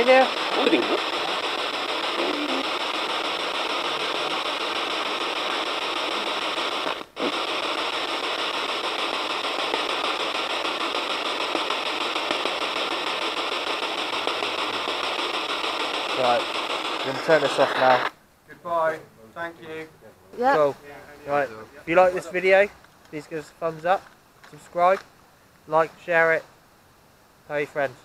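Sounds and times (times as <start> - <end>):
radio static hiss: 0.0 - 26.6, 27.4 - 28.0.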